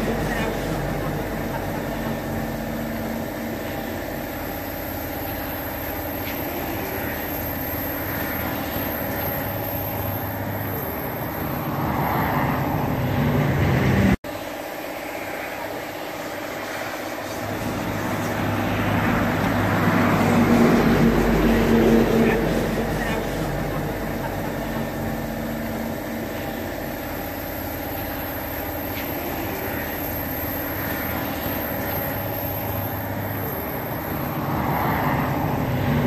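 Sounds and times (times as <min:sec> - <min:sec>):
passing traffic: 0:00.0 - 0:14.2, 0:16.6 - 0:36.0
vehicle engine running: 0:00.0 - 0:14.2, 0:15.3 - 0:36.0.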